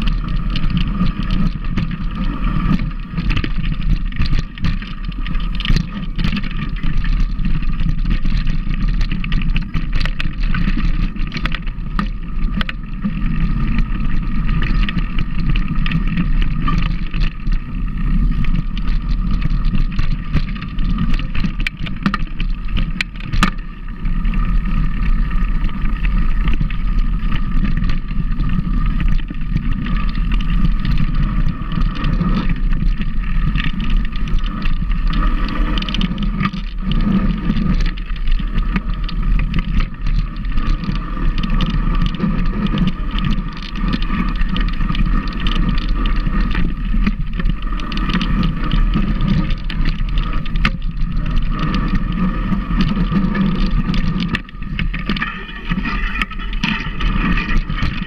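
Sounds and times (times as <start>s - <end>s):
moving vehicle rumble: 0.0s - 58.0s.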